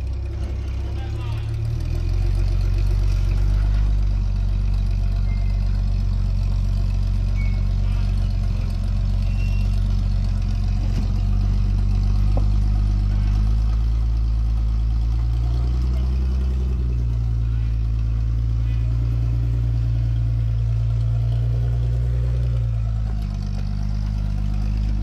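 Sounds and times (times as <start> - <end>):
vehicle engine droning at low revs: 0.0 - 25.0.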